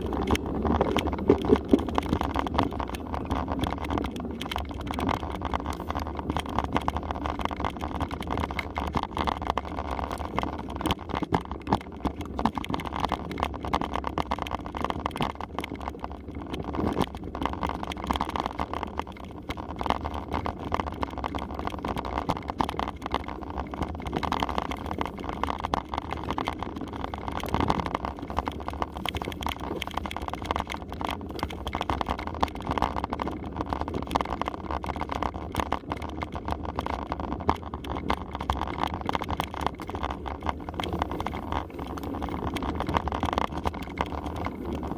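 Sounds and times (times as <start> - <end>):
bike tyres rolling on dirt: 0.0 - 44.9.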